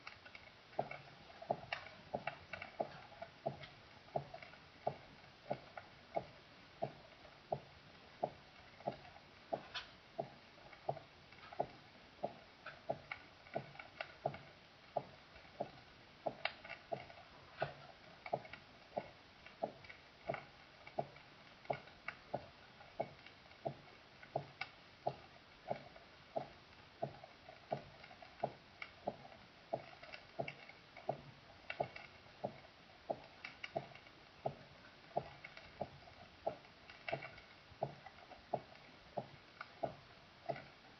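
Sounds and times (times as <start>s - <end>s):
heartbeat through stethoscope: 0.7s - 40.8s.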